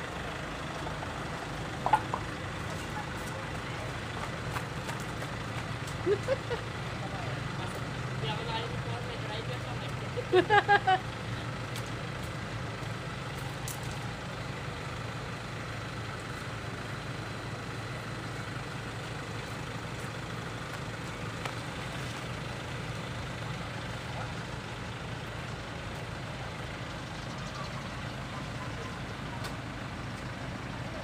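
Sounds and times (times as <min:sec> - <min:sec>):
van engine idling: 0:00.0 - 0:31.0.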